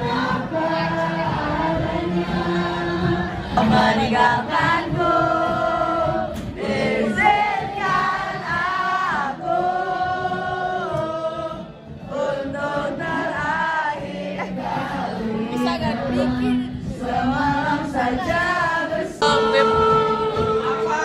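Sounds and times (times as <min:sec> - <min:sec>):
group of voices singing: 0:00.0 - 0:21.0.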